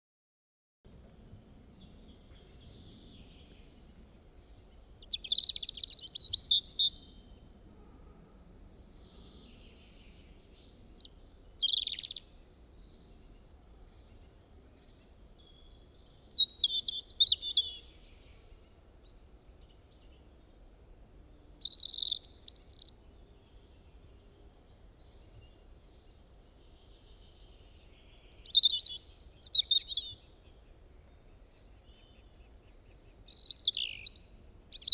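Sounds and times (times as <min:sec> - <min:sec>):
robin singing: 0:01.0 - 0:07.4, 0:08.4 - 0:20.3, 0:21.2 - 0:34.9.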